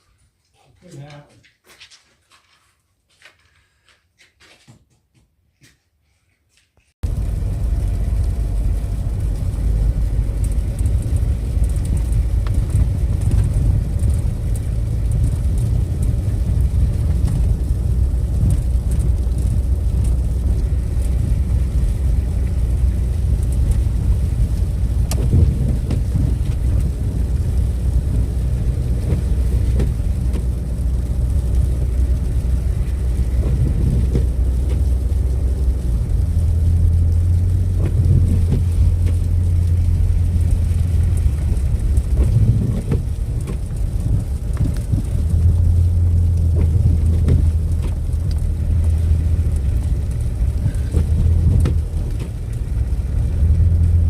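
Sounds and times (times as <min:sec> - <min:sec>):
vehicle engine and road noise: 0:06.8 - 0:54.0.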